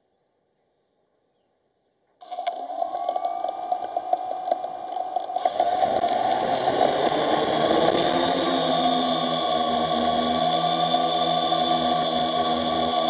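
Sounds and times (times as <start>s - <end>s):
drone propellers whining: 2.2s - 13.0s
small motor ticks: 2.2s - 13.0s.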